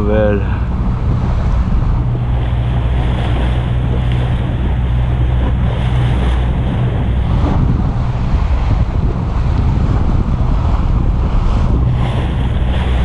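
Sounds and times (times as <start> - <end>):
motorboat engine humming: 0.0 - 13.0
water rushing past hull: 0.0 - 13.0
wind noise on microphone: 0.0 - 13.0.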